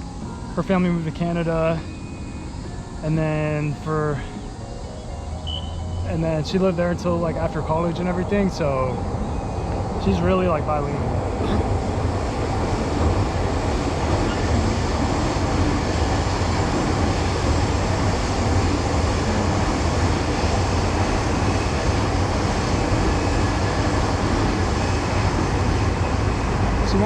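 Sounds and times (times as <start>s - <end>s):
train running past: 0.0s - 27.0s.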